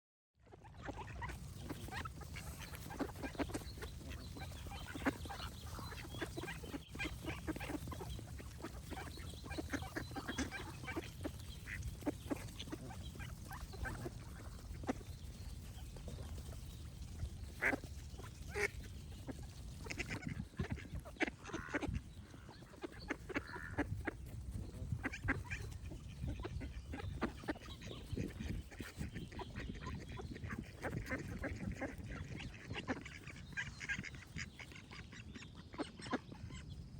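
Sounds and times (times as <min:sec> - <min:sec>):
ducks quacking: 0:00.4 - 0:36.9.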